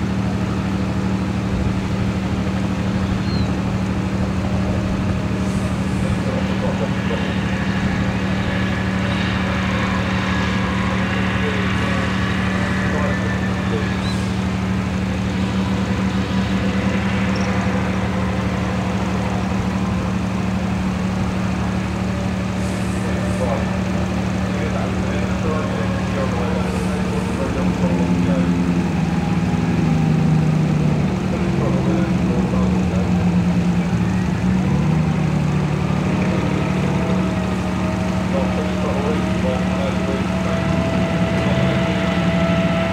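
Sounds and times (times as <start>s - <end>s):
tank diesel engine droning: 0.0s - 42.9s.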